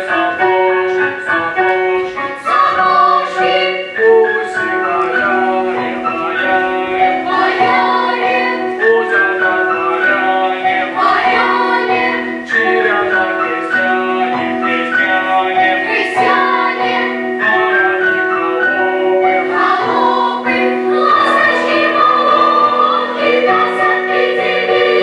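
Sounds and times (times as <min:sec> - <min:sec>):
choir singing held notes: 0:00.0 - 0:25.0.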